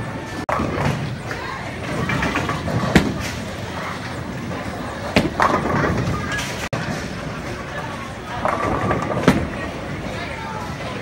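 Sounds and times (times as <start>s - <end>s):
background chatter: 0.0s - 11.0s
bowling balls rolling: 0.2s - 10.2s.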